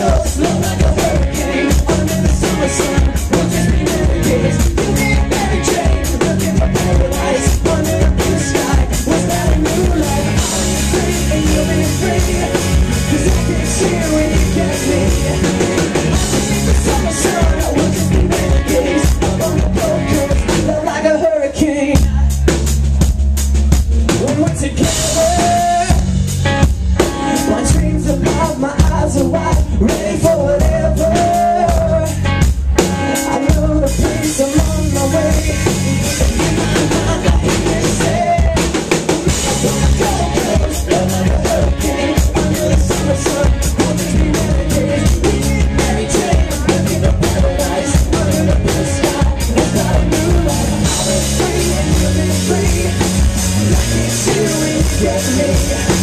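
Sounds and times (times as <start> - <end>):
drum kit beat: 0.0 - 56.0
pop-rock band playing: 0.0 - 56.0.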